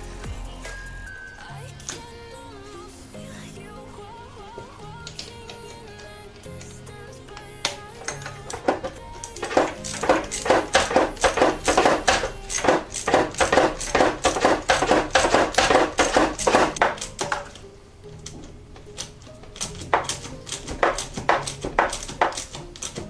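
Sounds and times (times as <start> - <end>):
background music with steady beat: 0.0 - 23.0.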